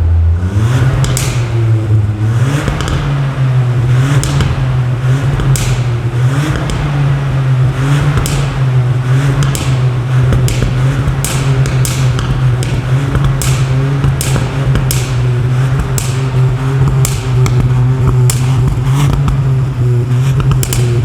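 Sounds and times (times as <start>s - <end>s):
car engine droning: 0.0s - 21.0s
exhaust cracks: 0.0s - 21.0s.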